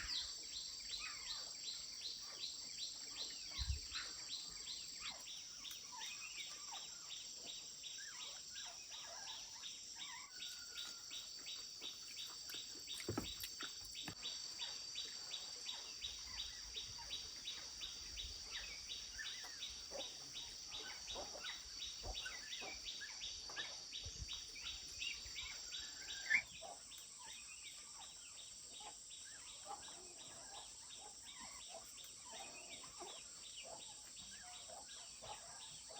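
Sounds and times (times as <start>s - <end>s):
insects buzzing: 0.0s - 30.0s
bird calls: 0.0s - 35.9s
regular insect chirp: 0.0s - 35.9s.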